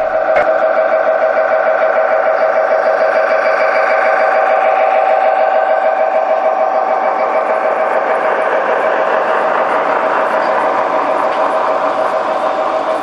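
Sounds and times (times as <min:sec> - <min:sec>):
model locomotive whine: 0:00.0 - 0:13.0
train wheels rolling over track: 0:00.0 - 0:13.0.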